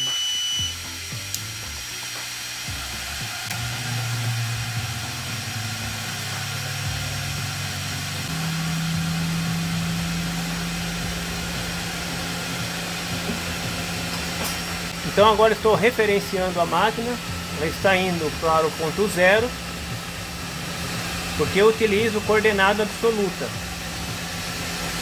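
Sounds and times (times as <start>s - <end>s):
fans and pump rushing air: 0.0s - 25.0s
low motor hum: 0.0s - 25.0s.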